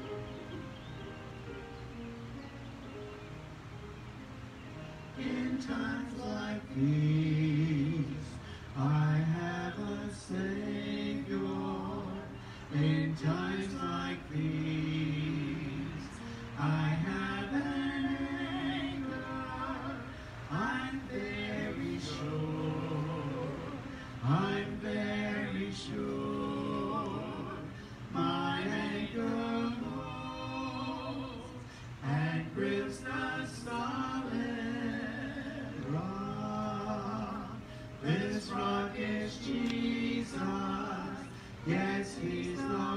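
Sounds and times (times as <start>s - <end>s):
voices singing a hymn: 0.0s - 42.9s.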